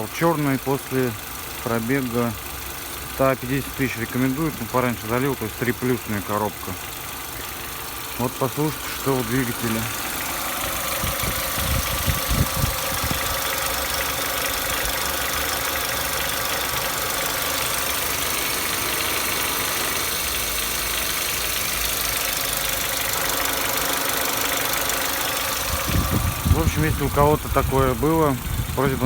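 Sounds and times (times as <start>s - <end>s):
car engine idling: 0.0s - 29.0s
engine rattle: 0.0s - 29.0s.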